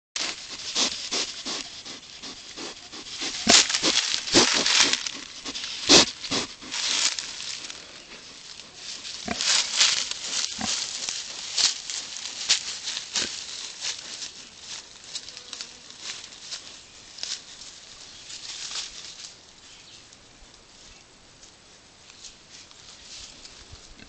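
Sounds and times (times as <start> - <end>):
pigs snuffling: 0.2 - 19.9
leaves and stems rustling: 0.2 - 20.0, 20.8 - 24.0.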